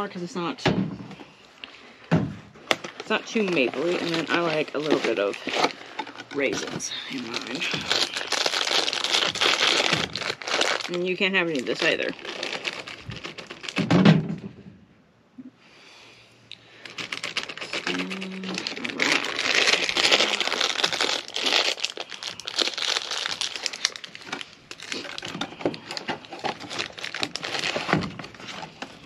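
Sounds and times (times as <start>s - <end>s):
plastic bag crinkling: 2.6s - 13.9s, 16.7s - 29.0s.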